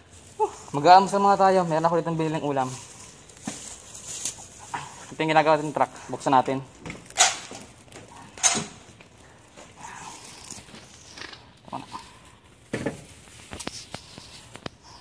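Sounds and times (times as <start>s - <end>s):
plastic bag rustling: 0.0s - 14.9s.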